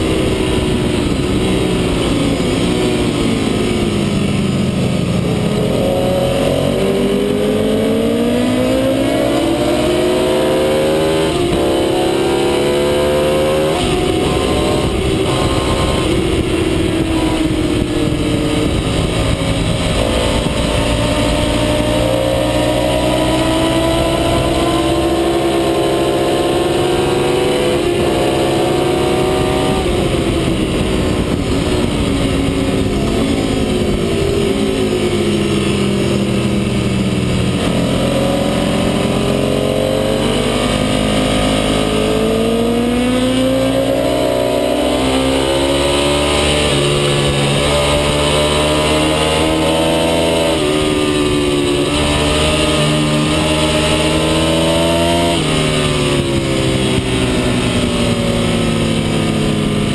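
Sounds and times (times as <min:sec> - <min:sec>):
racing motorcycle engine: 0:00.0 - 0:59.9
wind noise on microphone: 0:00.0 - 0:59.9.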